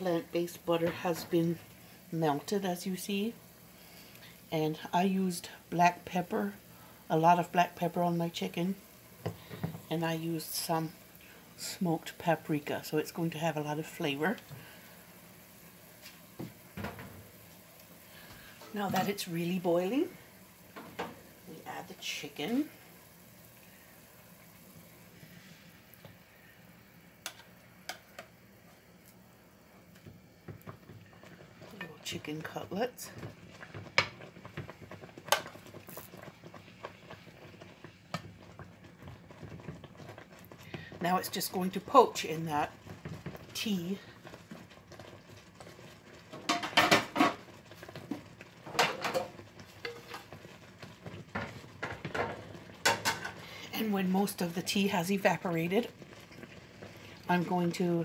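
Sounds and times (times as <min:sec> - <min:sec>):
tea boiling in a pan: 0:00.0 - 0:58.0.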